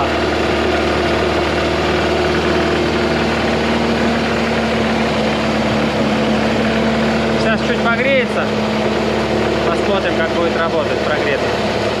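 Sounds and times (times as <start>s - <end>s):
car engine idling: 0.0s - 12.0s
engine knocking: 0.0s - 12.0s.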